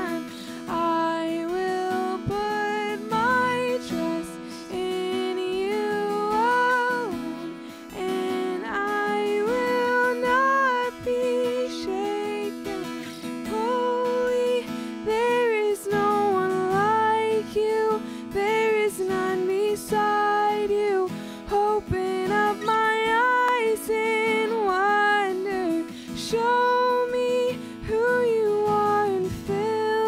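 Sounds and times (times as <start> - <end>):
person singing worship song: 0.0 - 30.0
strummed acoustic guitar: 0.0 - 30.0.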